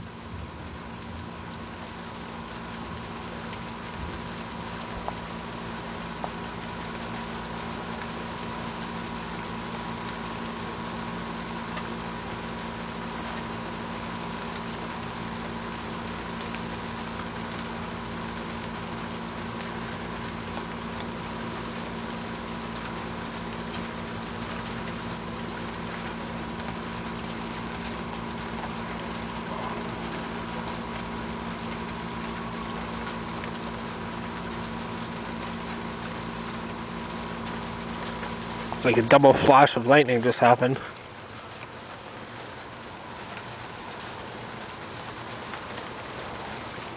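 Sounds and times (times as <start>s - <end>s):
constant steady hum: 0.0s - 46.9s
faint drips: 0.0s - 46.9s
rain pattering: 0.0s - 46.9s.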